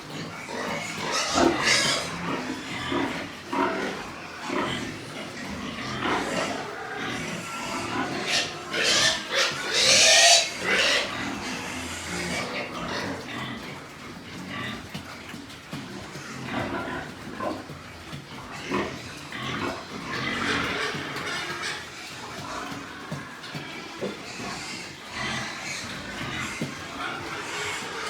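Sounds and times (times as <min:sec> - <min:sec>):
pigs grunting: 0:00.0 - 0:28.0.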